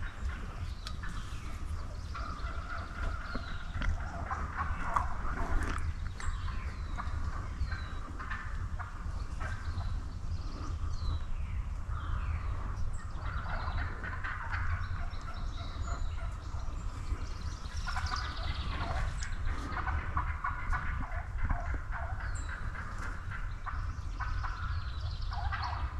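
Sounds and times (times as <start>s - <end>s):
turkeys gobbling: 0.0s - 25.9s.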